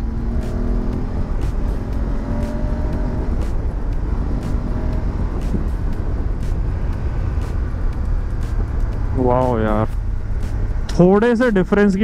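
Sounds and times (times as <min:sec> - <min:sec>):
motorcycle engine humming: 0:00.0 - 0:12.0
wind rushing over rider: 0:00.0 - 0:12.0.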